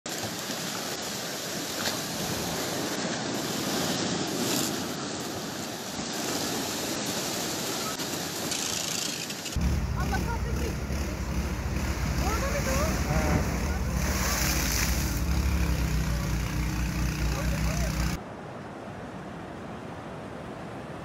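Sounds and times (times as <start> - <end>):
waves splashing: 0.1 - 21.0.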